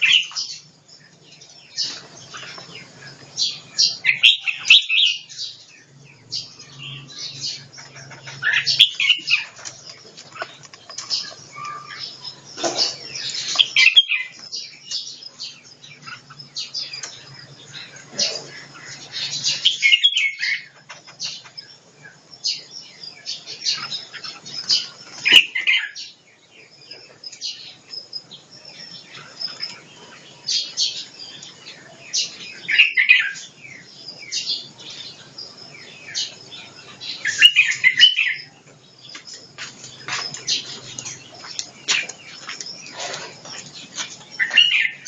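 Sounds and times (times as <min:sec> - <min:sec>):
caged songbirds chirping: 0:00.0 - 0:45.0.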